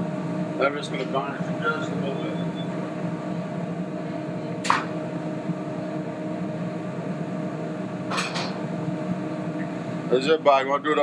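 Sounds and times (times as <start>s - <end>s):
kitchen ventilation hum: 0.0s - 11.0s.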